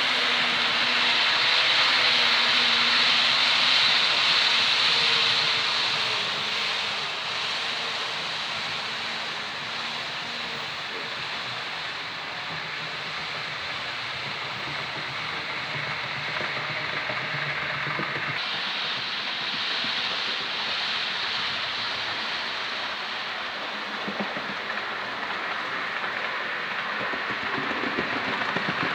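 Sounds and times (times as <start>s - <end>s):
model train running on track: 0.0s - 28.9s.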